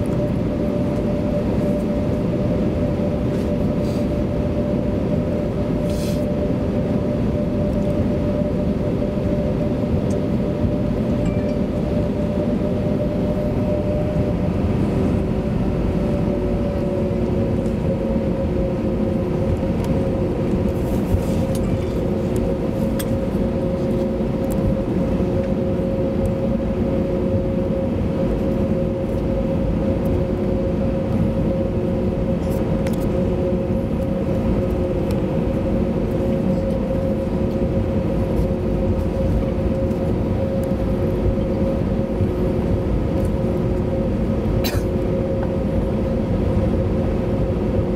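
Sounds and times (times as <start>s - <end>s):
jet engines idling: 0.0s - 47.9s.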